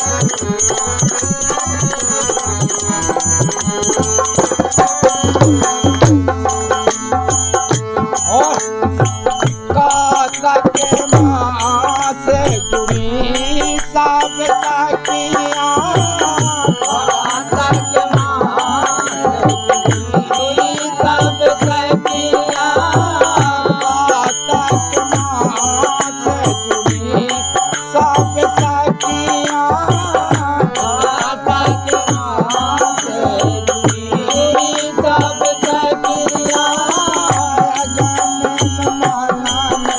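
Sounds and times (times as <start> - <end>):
dholak drum: 0.0 - 39.9
harmonium: 0.0 - 39.9.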